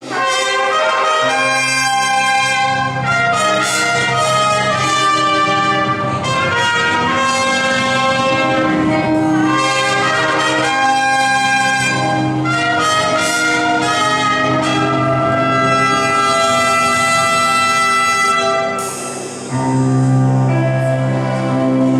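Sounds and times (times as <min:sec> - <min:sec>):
brass fanfare: 0:00.0 - 0:21.9.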